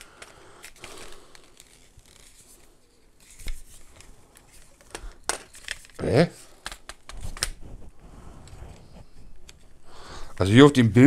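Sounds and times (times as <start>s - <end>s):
paper rustling: 0.0s - 9.2s.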